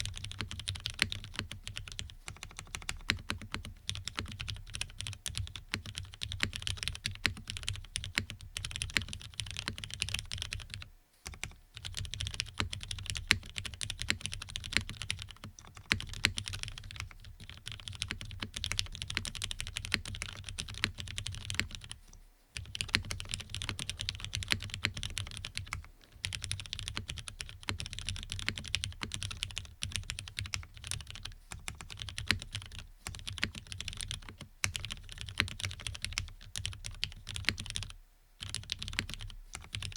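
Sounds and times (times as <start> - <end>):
mechanical keyboard typing: 0.0 - 22.0, 22.6 - 39.9.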